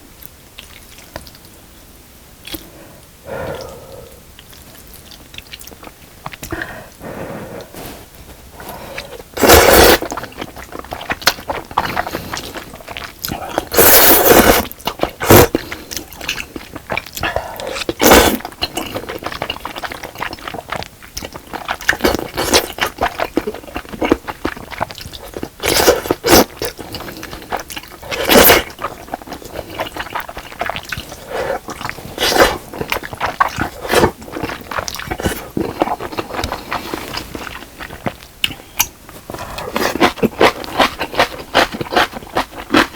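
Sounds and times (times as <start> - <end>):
close chewing sounds: 0.2 - 1.7, 2.4 - 42.9.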